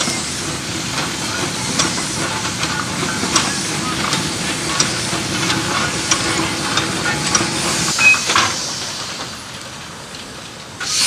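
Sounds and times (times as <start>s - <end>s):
steam hiss: 0.0s - 10.1s, 10.8s - 11.0s.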